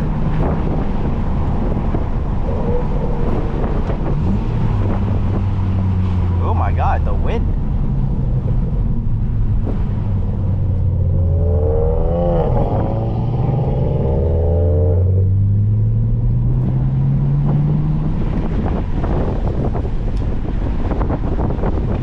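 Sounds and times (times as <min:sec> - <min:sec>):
car engine accelerating: 0:00.0 - 0:22.0
road and wind noise: 0:00.0 - 0:22.0.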